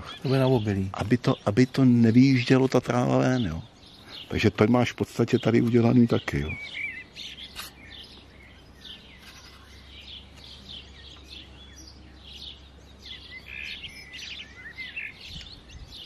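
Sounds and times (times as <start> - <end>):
low steady hum: 0.0 - 16.0
songbirds chirping: 0.0 - 16.0.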